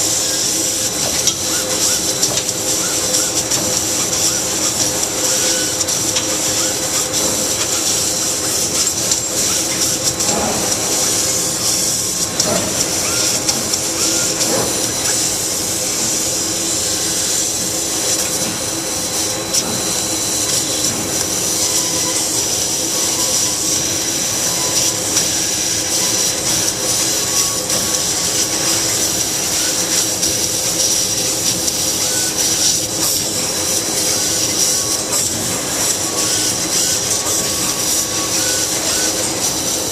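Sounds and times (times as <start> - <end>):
laser cutter hiss: 0.0 - 39.9
machine hum: 0.0 - 39.9.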